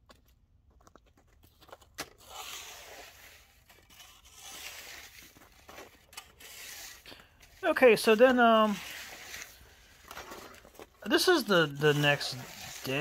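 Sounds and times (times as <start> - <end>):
ice and slush crunching: 1.4 - 13.0.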